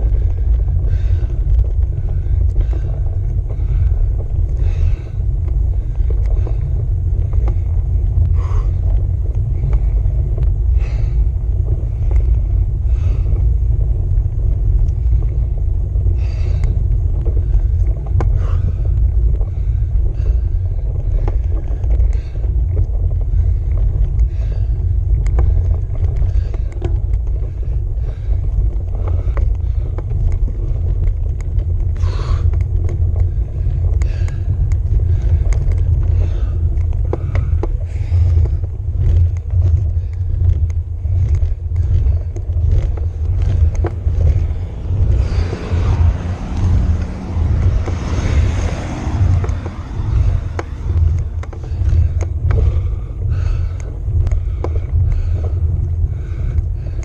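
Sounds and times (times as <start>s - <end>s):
bike low rumble: 0.0s - 57.0s
car approaching: 0.0s - 57.0s.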